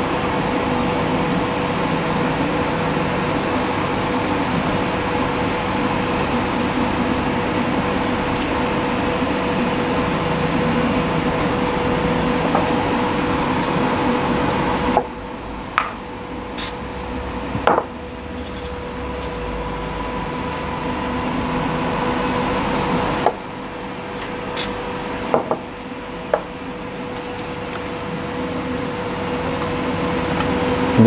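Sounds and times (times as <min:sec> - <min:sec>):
background hum with constant tone: 0:00.0 - 0:31.0.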